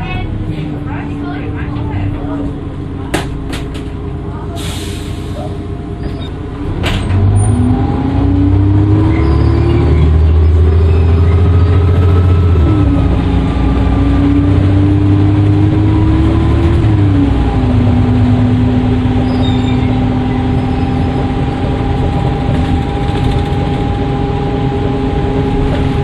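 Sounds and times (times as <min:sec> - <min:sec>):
bus engine accelerating: 0:00.0 - 0:26.0.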